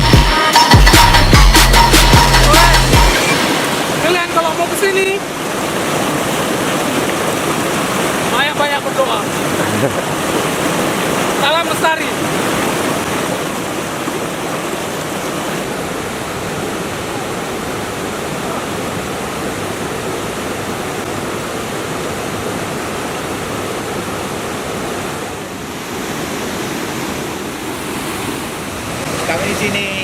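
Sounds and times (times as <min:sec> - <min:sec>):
forest stream rushing: 0:01.6 - 0:30.0.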